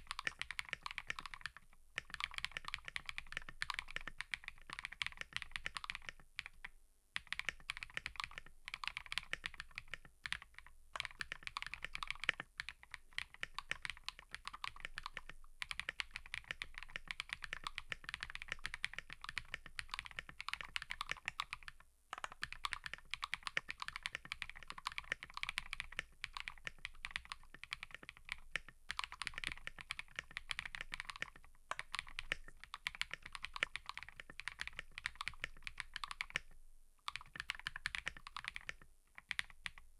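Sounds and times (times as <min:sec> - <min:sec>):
mechanical keyboard typing: 0:00.0 - 0:06.6, 0:07.2 - 0:39.9.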